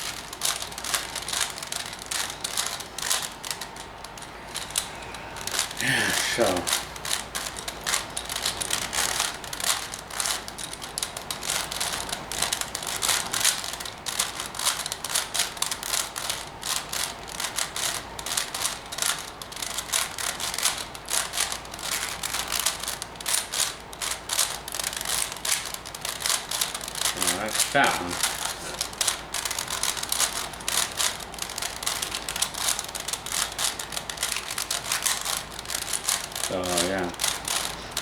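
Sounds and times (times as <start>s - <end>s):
puzzle cube plastic clicking: 0.0s - 38.0s.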